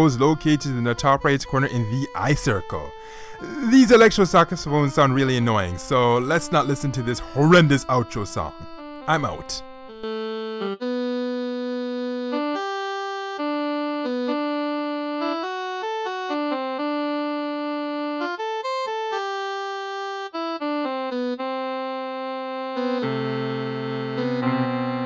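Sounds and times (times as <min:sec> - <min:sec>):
electronic keyboard saxophone melody: 0:00.0 - 0:25.0
lower keyboard accompaniment: 0:00.0 - 0:25.0.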